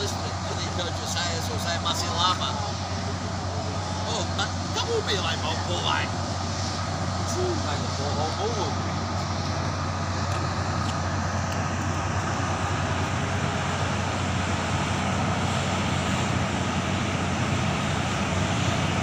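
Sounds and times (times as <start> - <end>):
heavy diesel engines labouring: 0.0 - 19.0.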